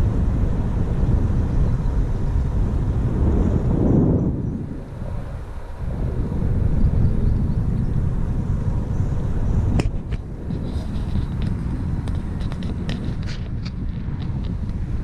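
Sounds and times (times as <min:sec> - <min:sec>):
bicycle tyres on trail: 0:00.0 - 0:15.0
wind on microphone: 0:00.0 - 0:15.0.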